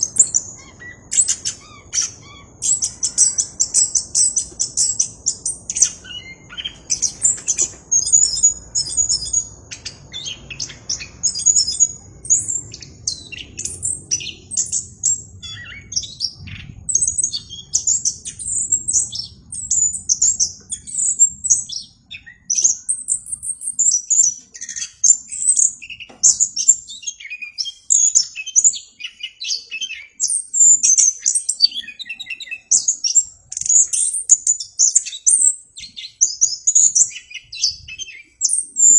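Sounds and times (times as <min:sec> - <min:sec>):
bird singing trills: 0:00.0 - 0:38.9.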